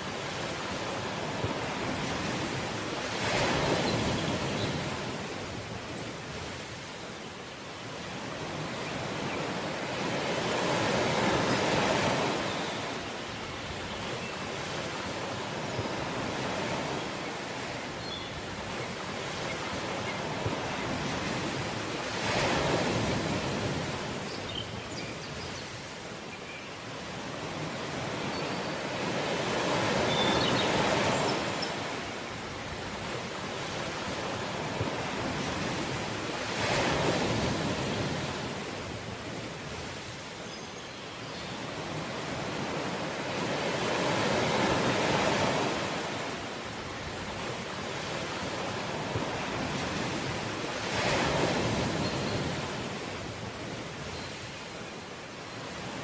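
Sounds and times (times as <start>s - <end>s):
ocean waves breaking: 0.0s - 7.0s, 8.2s - 13.7s, 14.4s - 24.4s, 27.1s - 40.3s, 41.7s - 54.6s.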